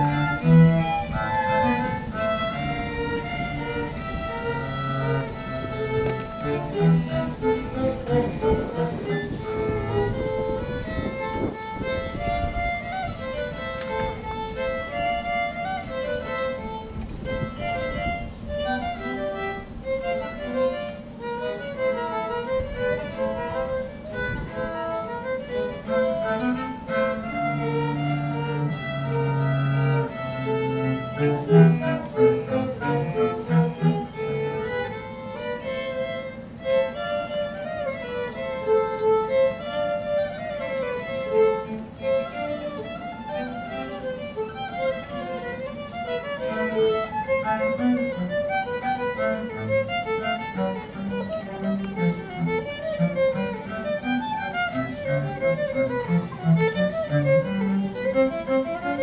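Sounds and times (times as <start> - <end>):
held low cello notes: 0.0 - 59.0
string ensemble playing: 0.0 - 59.0.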